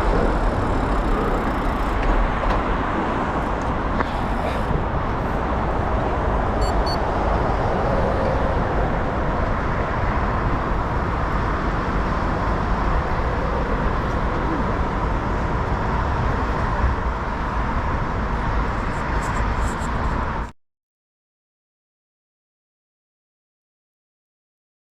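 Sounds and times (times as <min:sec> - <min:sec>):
bicycle tyre and road noise: 0:00.0 - 0:20.5.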